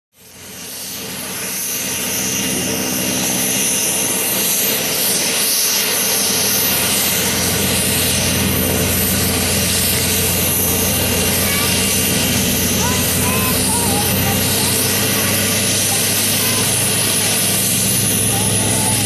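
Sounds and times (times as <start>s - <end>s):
helicopter turbine whine and rotor: 0.2s - 19.0s.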